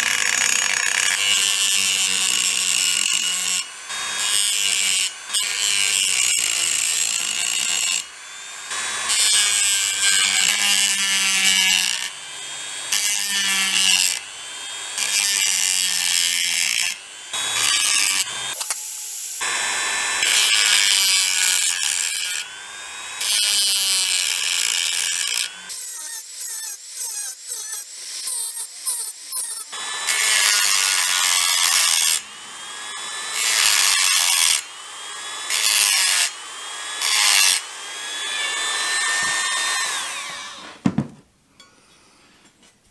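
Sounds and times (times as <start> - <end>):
rotary tool grinding metal: 0.0 - 40.7.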